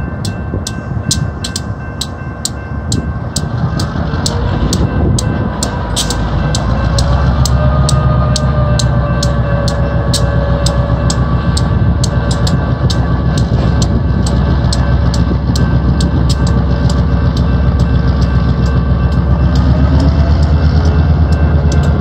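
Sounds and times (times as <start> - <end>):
diesel locomotive engine rumble: 0.0 - 22.0
railroad crossing bell ringing: 0.0 - 22.0.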